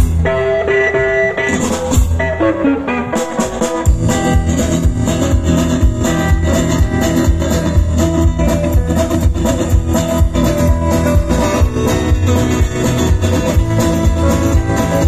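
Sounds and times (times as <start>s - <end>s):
guitar lead-in: 0.0s - 15.0s
rockabilly band playing: 0.0s - 15.0s.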